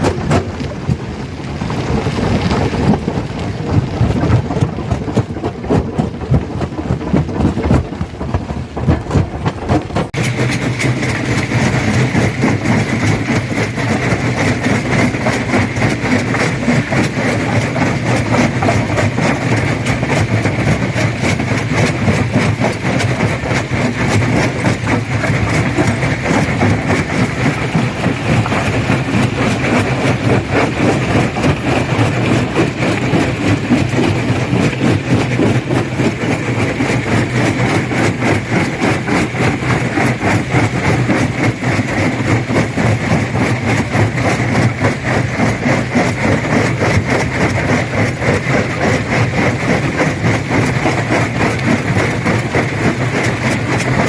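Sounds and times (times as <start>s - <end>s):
engine hum with whine: 0.0s - 54.0s
heavy machine noise: 0.0s - 54.0s.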